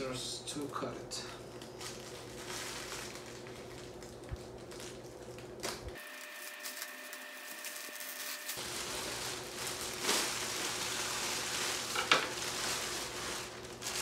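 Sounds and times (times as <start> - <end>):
plastic crinkling and rustling: 1.3 - 14.0.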